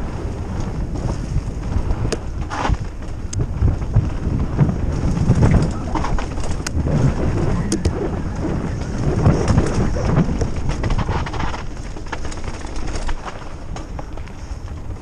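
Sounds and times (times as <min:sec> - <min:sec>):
bike tyres rolling on dirt: 0:00.0 - 0:15.0
wind rumble on microphone: 0:00.0 - 0:15.0
bike chain rattling and clicking: 0:00.5 - 0:15.0.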